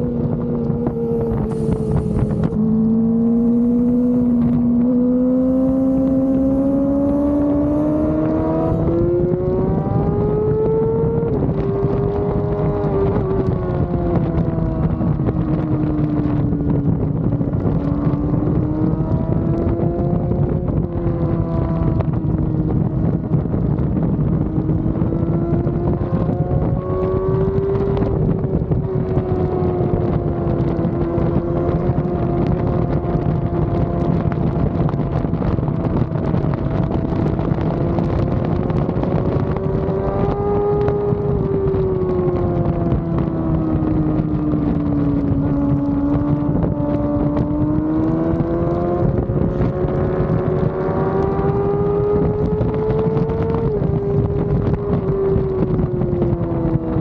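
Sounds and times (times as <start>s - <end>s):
motorcycle engine under throttle: 0.0s - 57.0s
wind on microphone: 0.0s - 57.0s.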